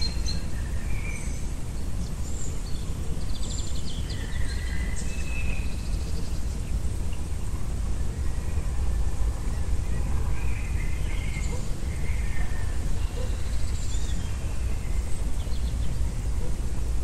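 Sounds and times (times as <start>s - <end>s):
songbirds chirping and whistling: 0.0s - 7.4s, 8.0s - 17.0s.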